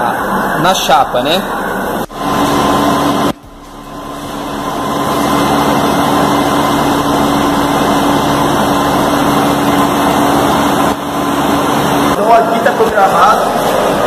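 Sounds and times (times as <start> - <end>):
machinery humming and hissing: 0.0 - 14.0.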